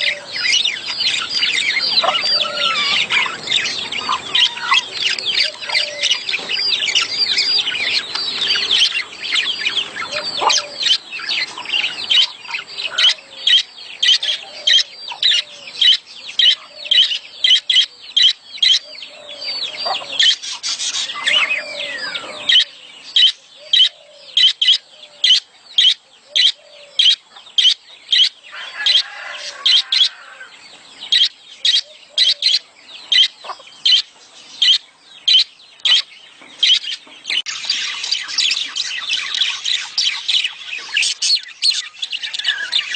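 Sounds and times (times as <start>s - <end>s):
budgerigars chirping: 0.0s - 42.9s.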